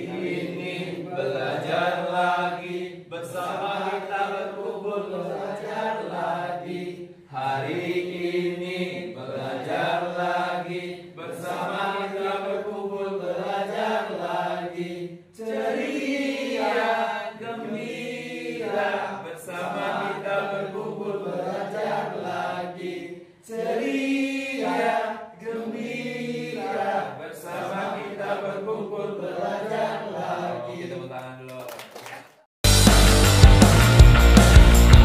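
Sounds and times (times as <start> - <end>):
group singing in unison: 0.0 - 31.3.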